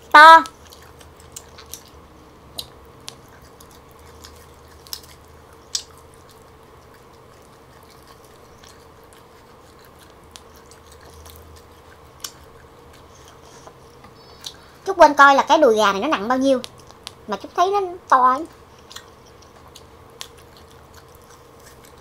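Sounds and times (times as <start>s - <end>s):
soft chewing: 0.0s - 22.0s
mouth clicks and smacks: 0.4s - 14.7s, 18.5s - 22.0s.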